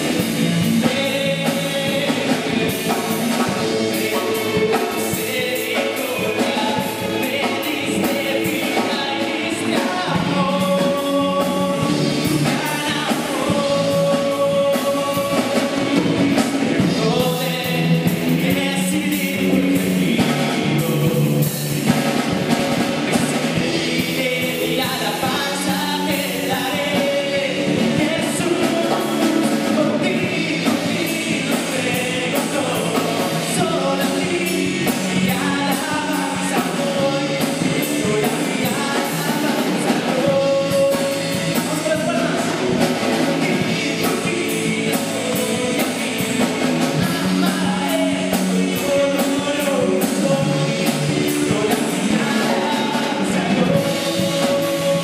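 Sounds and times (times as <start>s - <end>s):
live rock band playing: 0.0s - 55.0s
man singing into microphone: 0.0s - 55.0s.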